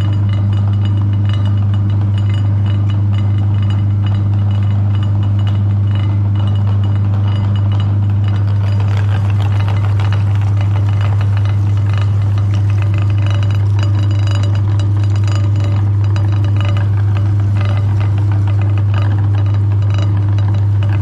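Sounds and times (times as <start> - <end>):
light clinking rattle: 0.0 - 21.0
meat grinder humming: 0.0 - 21.0.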